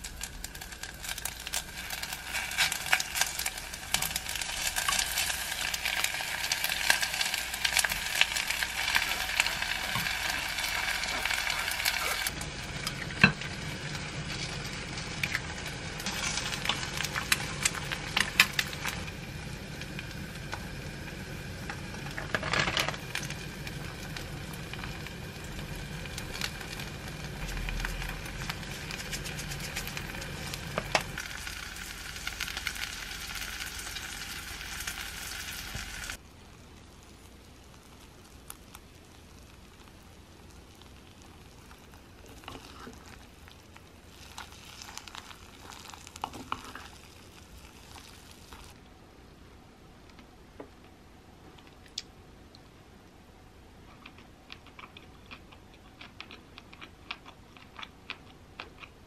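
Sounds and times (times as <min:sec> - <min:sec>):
food sizzling in a pot: 0:00.0 - 0:48.8.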